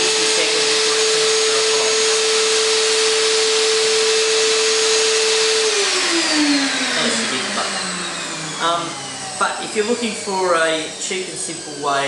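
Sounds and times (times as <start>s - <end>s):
motor winding down: 0.0s - 12.0s
shop vacuum whining: 0.0s - 12.0s.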